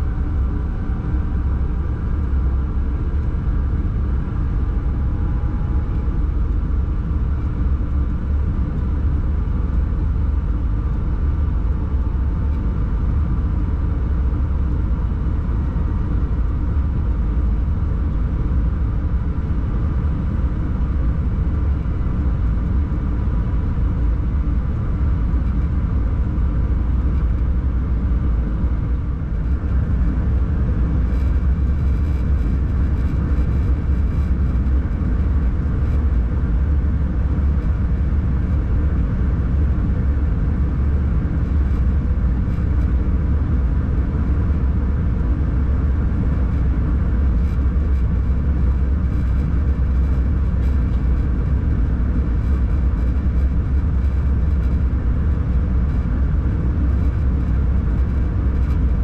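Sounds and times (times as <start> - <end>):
faint steady whine: 0.0 - 59.0.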